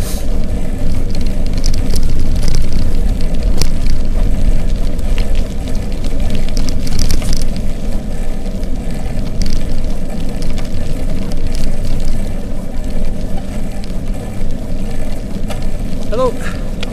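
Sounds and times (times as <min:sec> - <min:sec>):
bicycle clicks and rattles: 0:00.0 - 0:16.9
wind buffeting microphone: 0:00.2 - 0:16.9.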